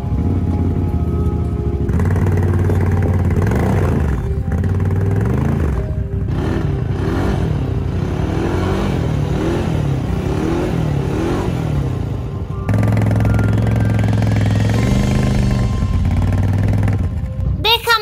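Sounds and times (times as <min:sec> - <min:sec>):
vehicle motor revving: 0:01.8 - 0:17.6.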